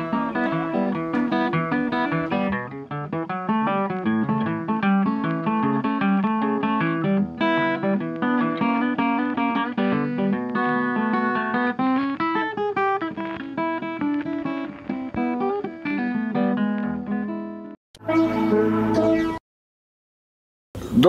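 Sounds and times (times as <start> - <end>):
acoustic guitar music: 0.0 - 19.4.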